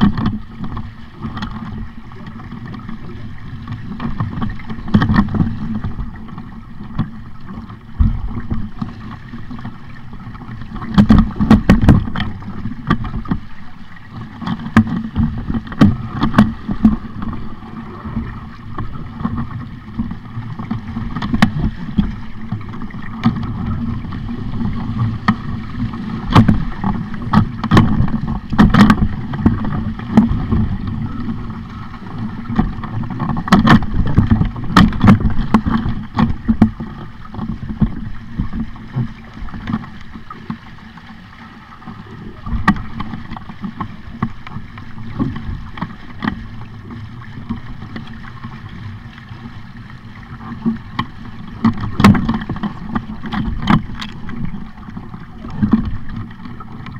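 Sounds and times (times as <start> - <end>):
water rushing along a hull: 0.0 - 56.9.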